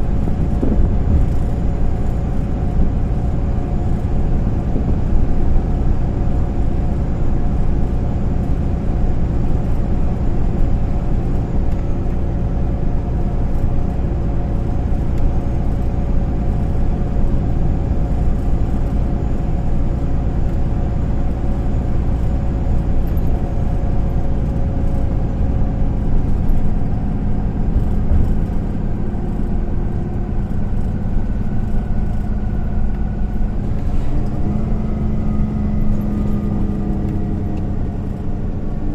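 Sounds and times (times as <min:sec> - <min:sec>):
bus diesel engine drone: 0:00.0 - 0:38.9
road rumble: 0:00.0 - 0:38.9.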